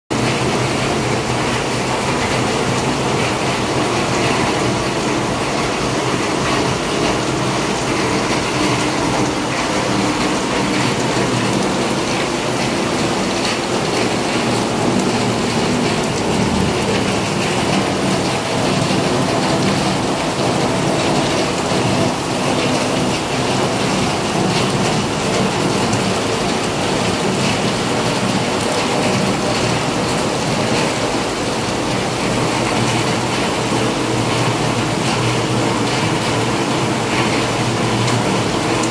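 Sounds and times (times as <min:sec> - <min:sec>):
heavy rain falling: 0:00.1 - 0:38.9.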